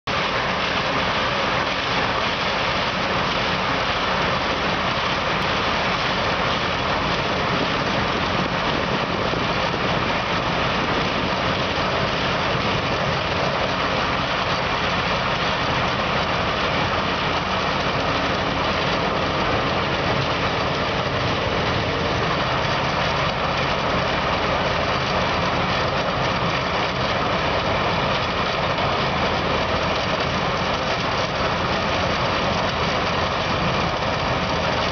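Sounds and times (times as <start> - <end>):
milling machine grinding ground: 0.1 - 34.9.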